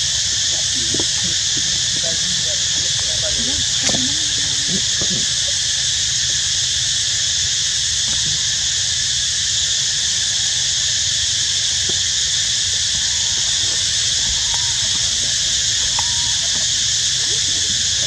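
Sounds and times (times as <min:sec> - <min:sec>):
insect chorus drone: 0:00.0 - 0:18.0.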